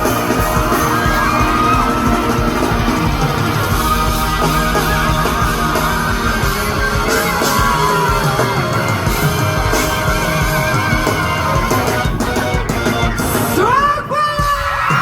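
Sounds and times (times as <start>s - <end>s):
electric guitar: 0.0s - 14.0s
live rock band playing: 0.0s - 15.0s.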